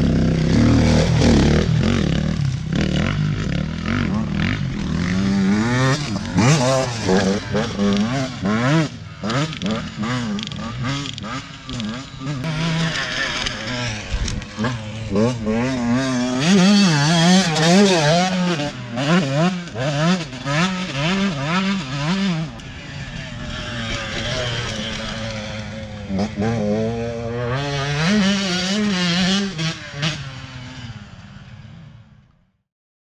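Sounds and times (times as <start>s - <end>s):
dirt bike engine revving: 0.0s - 31.8s.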